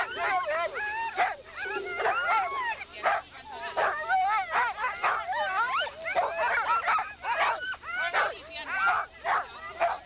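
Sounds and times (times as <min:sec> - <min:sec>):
dogs barking: 0:00.0 - 0:10.0
dogs yelping and howling: 0:00.0 - 0:10.0.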